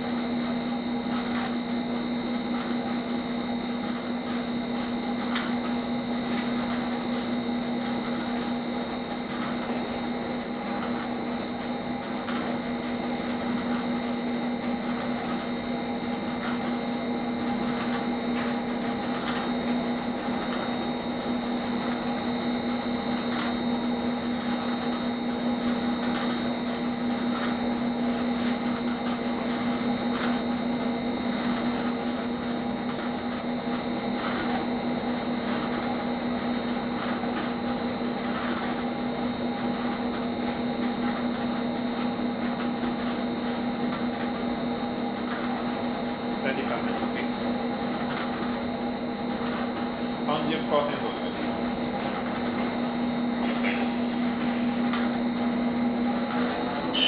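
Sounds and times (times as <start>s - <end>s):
industrial machine humming: 0.0s - 57.0s.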